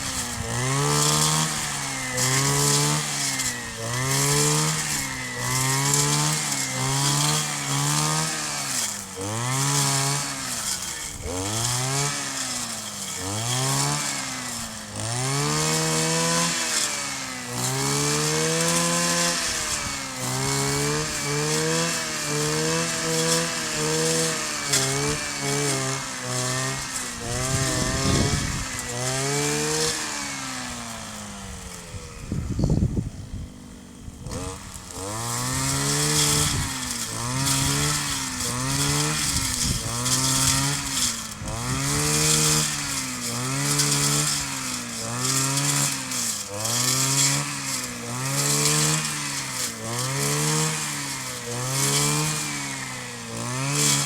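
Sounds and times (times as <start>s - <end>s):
brush cutter engine running: 0.0s - 54.0s.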